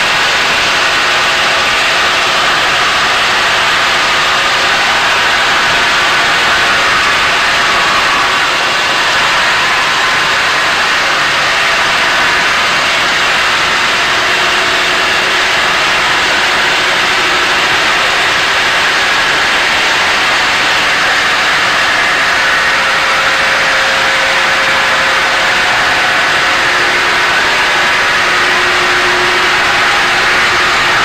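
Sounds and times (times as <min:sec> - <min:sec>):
wire saw machine hissing: 0:00.1 - 0:31.0.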